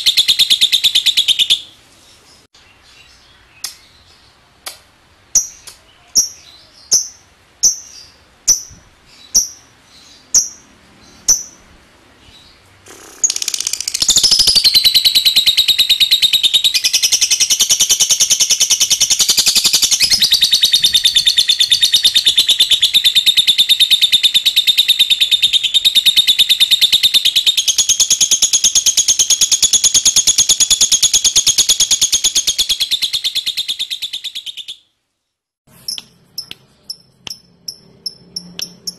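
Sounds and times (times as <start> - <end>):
lovebird chirping: 0.0 - 4.4, 5.3 - 35.0, 35.7 - 38.9.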